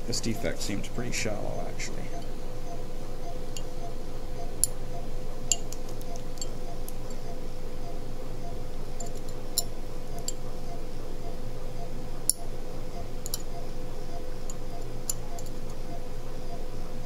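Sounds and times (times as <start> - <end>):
pulsing hum: 0.0 - 17.0.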